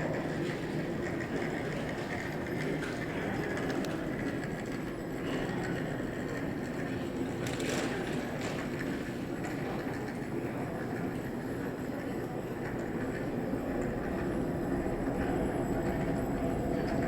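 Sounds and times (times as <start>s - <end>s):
airport terminal rumble and hum: 0.0s - 17.0s.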